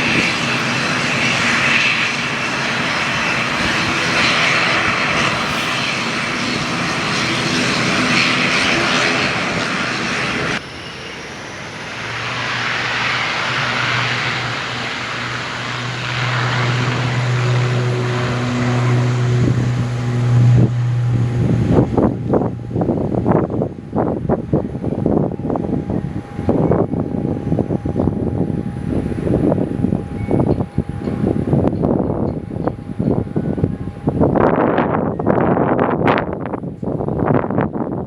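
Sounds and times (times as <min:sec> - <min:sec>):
aircraft engines running loudly: 0:00.0 - 0:38.0
aircraft low drone: 0:00.0 - 0:38.0.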